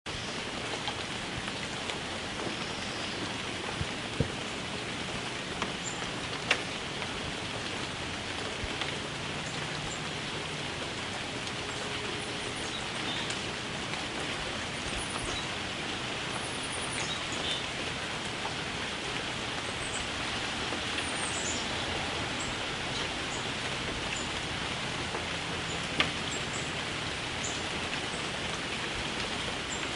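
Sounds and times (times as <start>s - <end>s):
steady rain falling: 0.1s - 29.9s
raindrop ticks near microphone: 0.2s - 29.9s.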